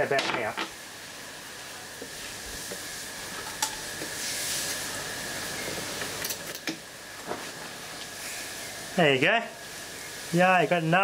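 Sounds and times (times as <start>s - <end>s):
electric arc hissing and whining: 0.0s - 11.0s.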